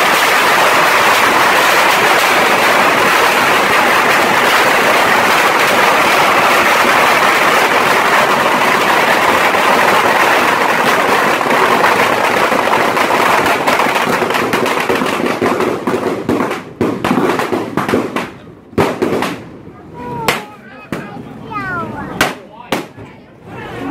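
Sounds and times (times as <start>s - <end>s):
bottle rockets hissing and crackling: 0.0s - 19.5s.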